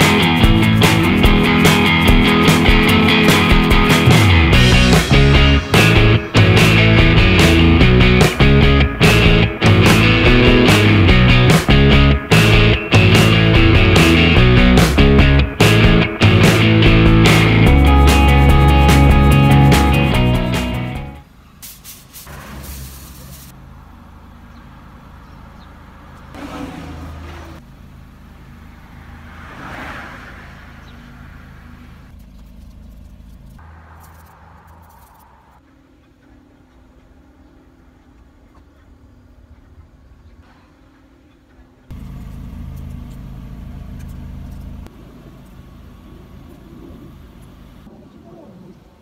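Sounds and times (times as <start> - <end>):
car engine idling: 0.0 - 21.6, 22.3 - 29.6, 30.2 - 36.0, 41.6 - 47.9.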